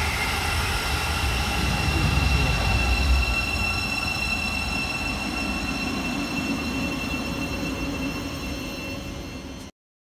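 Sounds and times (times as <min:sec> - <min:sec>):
high-pitched electrical whine: 0:00.0 - 0:09.7
low train rumble: 0:00.0 - 0:09.7.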